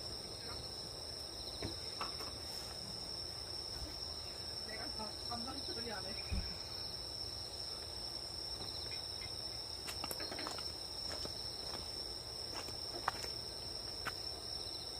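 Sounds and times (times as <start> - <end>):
grass insects chorus: 0.0 - 14.9
pulsing insect chirp: 0.0 - 14.9.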